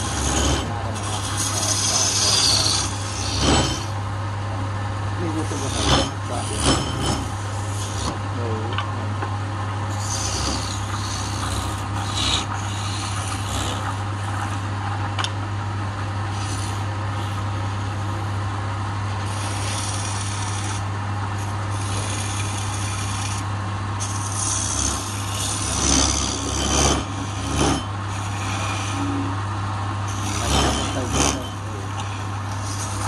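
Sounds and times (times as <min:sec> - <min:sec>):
gouge scraping spinning wood: 0:00.0 - 0:04.2, 0:05.2 - 0:15.3, 0:16.0 - 0:33.0
wood lathe humming: 0:00.0 - 0:33.0.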